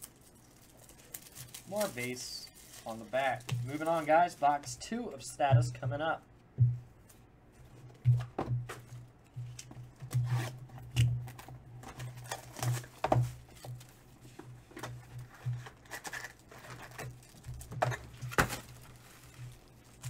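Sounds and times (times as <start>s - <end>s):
cardboard boxes and foil packs handled: 0.0s - 5.2s, 8.1s - 20.0s.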